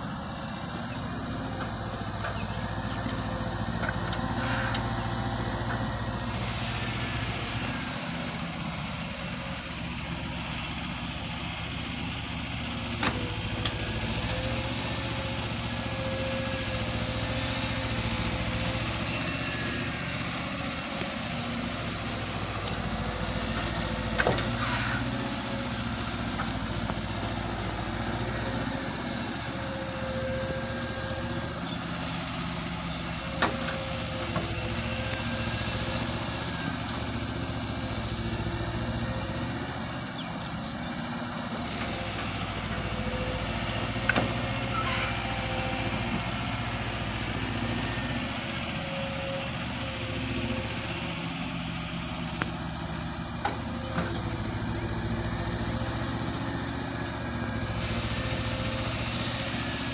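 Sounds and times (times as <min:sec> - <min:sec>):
excavator engine and hydraulics whine: 0:00.0 - 0:59.9.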